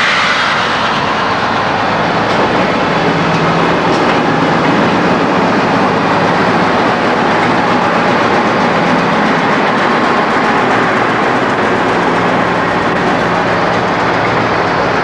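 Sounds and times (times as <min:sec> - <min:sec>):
diesel engines droning: 0:00.0 - 0:15.0
train rolling noise: 0:00.0 - 0:15.0.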